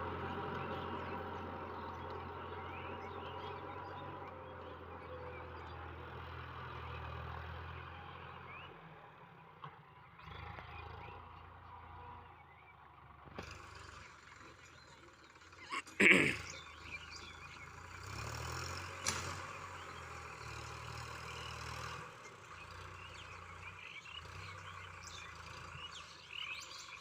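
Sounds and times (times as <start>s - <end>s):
tractor diesel engine running: 0.0s - 8.7s, 9.9s - 27.0s.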